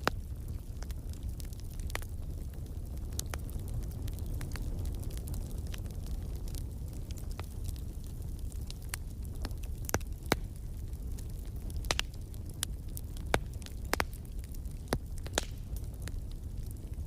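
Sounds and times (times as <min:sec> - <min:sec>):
low rumble of burning: 0:00.0 - 0:17.0
wood fire crackling: 0:00.0 - 0:17.0.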